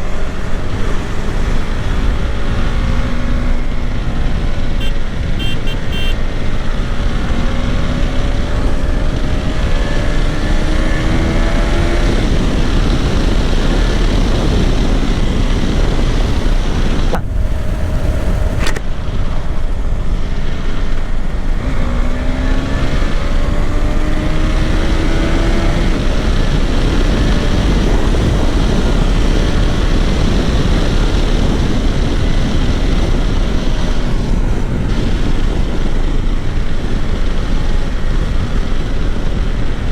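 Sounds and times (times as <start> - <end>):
motorcycle engine accelerating: 0.0 - 39.9
wind rushing on microphone: 0.0 - 39.9.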